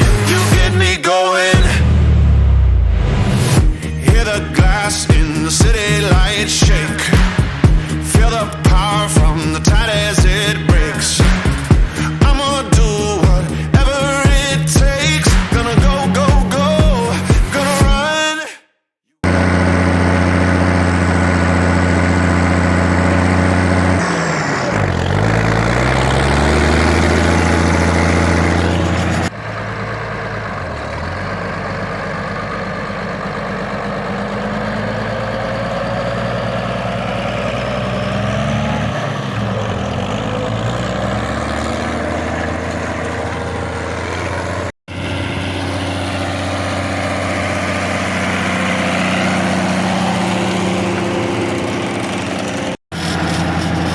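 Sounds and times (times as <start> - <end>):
tractor diesel engine running: 0.0 - 1.0, 1.6 - 18.0, 19.2 - 53.9.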